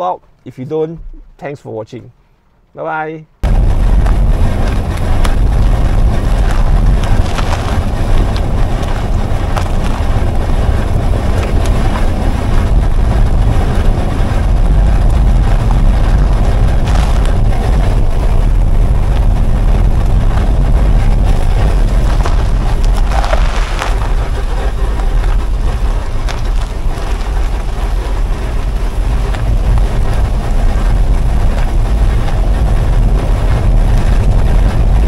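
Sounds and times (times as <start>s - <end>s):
road grit crunching: 3.4s - 35.0s
tyre rolling over coarse asphalt: 3.4s - 35.0s
wind rumble on microphone: 3.4s - 35.0s.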